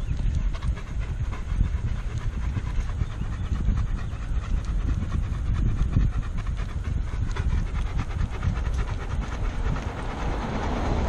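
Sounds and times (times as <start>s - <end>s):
wind and tyres on road: 0.0s - 11.0s.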